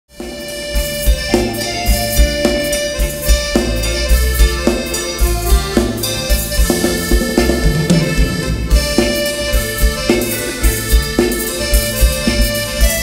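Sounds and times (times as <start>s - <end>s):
bass: 0.1s - 13.0s
drum kit beat: 0.1s - 13.0s
keyboard chords: 0.1s - 13.0s.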